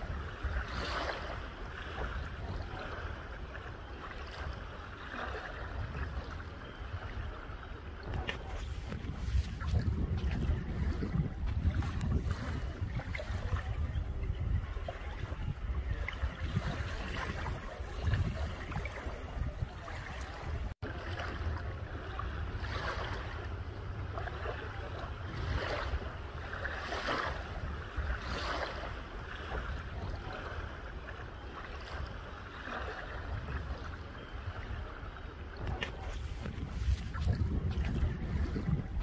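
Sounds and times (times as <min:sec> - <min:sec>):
small waves lapping on sand: 0:00.0 - 0:39.0
wind rumble on microphone: 0:00.0 - 0:39.0.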